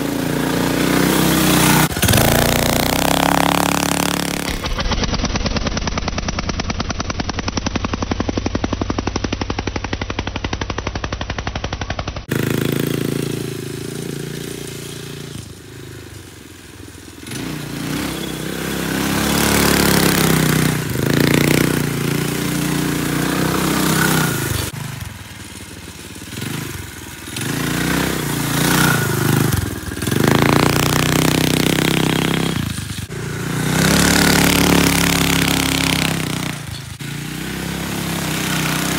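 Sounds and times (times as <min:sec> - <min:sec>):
small engine revving: 0:00.0 - 0:16.2, 0:17.2 - 0:38.9.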